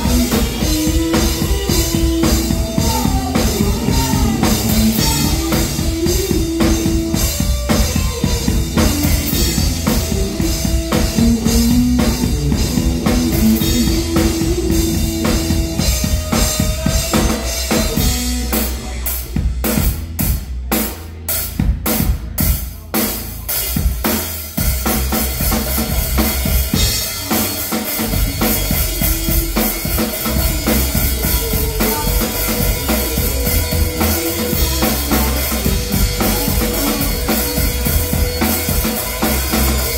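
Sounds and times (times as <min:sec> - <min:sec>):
melodic guitar line: 0:00.0 - 0:18.9, 0:26.0 - 0:39.9
live band playing: 0:00.0 - 0:39.9.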